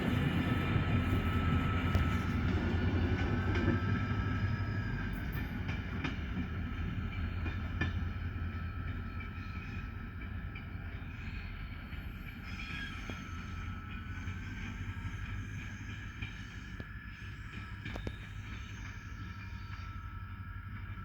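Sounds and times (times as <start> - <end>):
train engine hum: 0.0 - 21.0.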